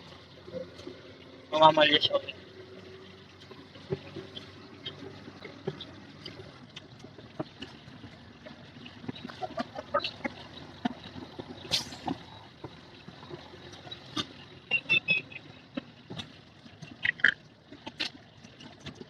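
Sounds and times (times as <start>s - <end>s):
truck cab running noise: 0.0s - 19.0s.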